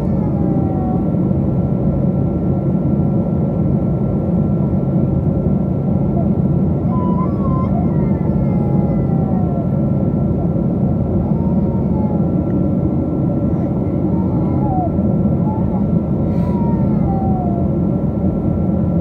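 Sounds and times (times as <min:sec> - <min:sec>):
engine and airflow rumble: 0:00.0 - 0:19.0.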